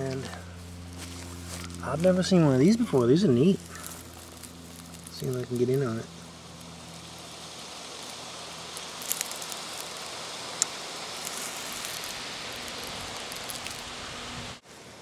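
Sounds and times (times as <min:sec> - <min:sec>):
leaves and undergrowth rustling: 0:00.0 - 0:15.0.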